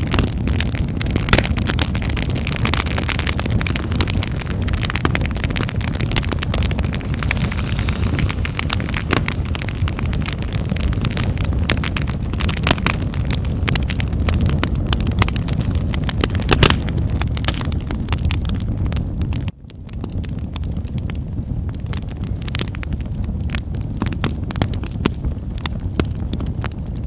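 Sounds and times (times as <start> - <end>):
fire crackling and popping: 0.0 - 27.0
low rumble of fire: 0.0 - 27.0.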